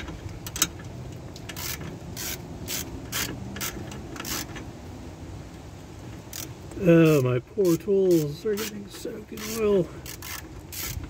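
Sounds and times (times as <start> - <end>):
ratchet wrench clicking: 0.3 - 4.6, 6.2 - 11.0.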